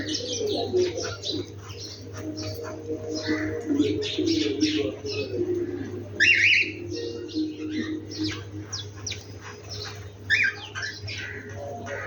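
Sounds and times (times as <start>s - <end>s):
loud warbled bird phrase: 0.0s - 12.0s
songbirds chirping and calling: 0.0s - 12.0s.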